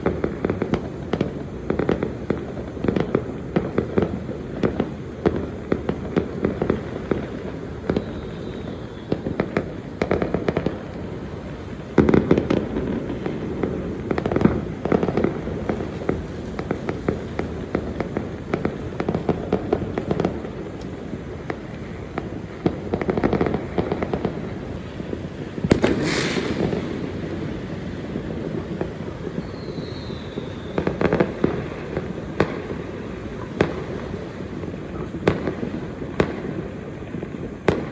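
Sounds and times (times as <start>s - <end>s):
firecrackers crackling and popping: 0.0s - 37.9s
firework bangs: 0.0s - 37.9s.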